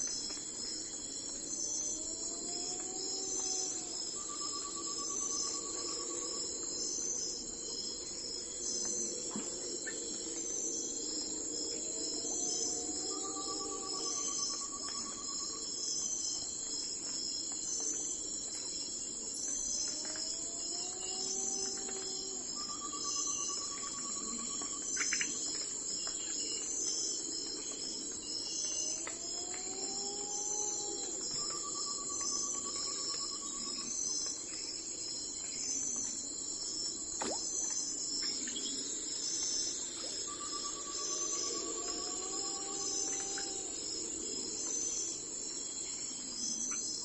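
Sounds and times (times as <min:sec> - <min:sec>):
insects chirping chorus: 0:00.0 - 0:47.0
low pulsed insect trill: 0:00.0 - 0:47.0.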